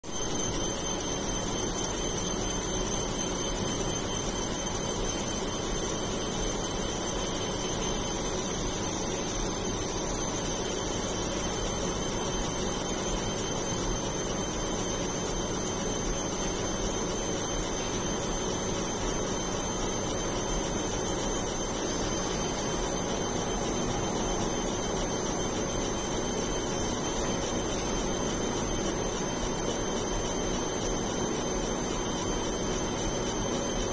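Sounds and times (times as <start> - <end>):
laser marking machine whirring: 0.1 - 33.9.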